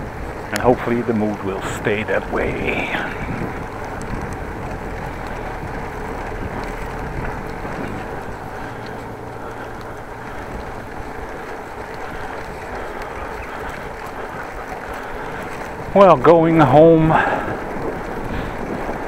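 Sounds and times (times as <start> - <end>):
low rumble of bicycle ride: 0.0 - 19.0
wind rushing over microphone: 0.0 - 19.0.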